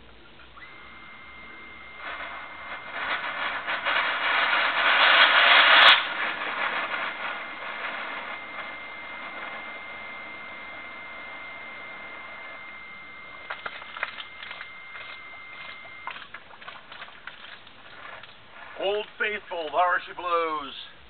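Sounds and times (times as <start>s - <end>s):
steady high whine: 0.0s - 21.0s
hot water and steam spurting: 0.6s - 20.8s.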